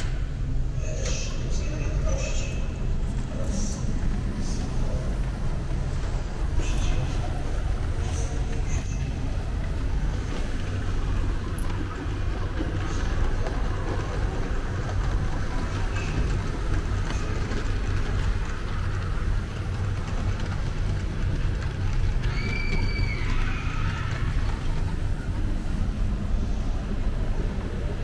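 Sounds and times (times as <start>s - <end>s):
model trains rumbling: 0.0s - 28.0s.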